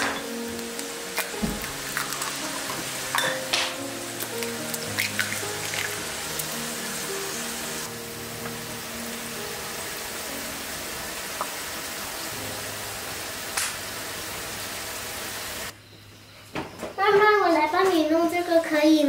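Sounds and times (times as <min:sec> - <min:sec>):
steady hiss: 0:00.0 - 0:15.8.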